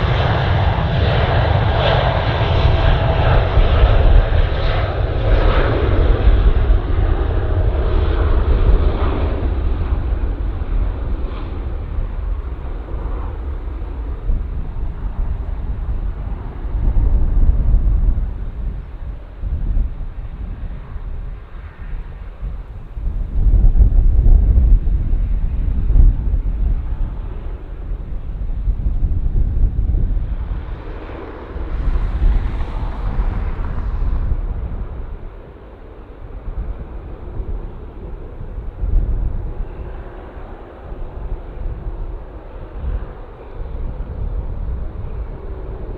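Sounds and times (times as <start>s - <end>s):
jet airliner engine rumble: 0.0s - 45.9s.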